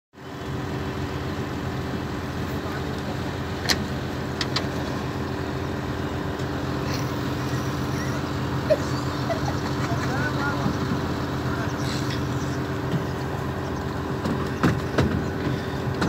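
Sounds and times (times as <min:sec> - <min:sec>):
pile hammer droning hum: 0:02.0 - 0:16.0.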